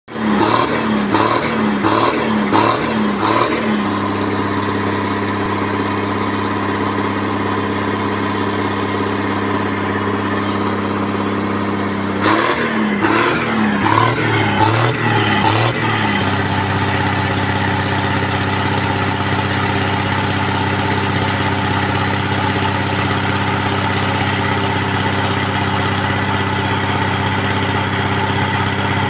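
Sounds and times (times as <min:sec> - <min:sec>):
diesel truck engine revving: 0:00.1 - 0:29.0.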